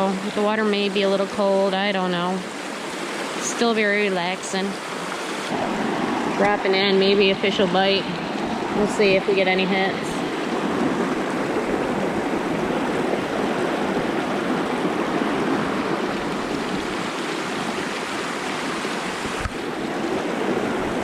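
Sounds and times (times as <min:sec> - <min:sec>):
brook water rushing: 0:00.0 - 0:21.0.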